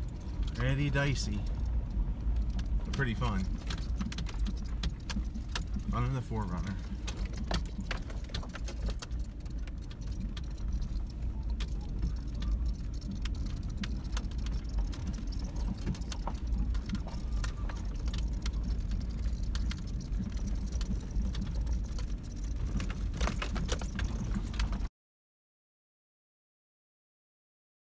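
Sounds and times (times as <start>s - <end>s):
clicks and rattles: 0.0s - 24.9s
road rumble inside vehicle: 0.0s - 24.9s.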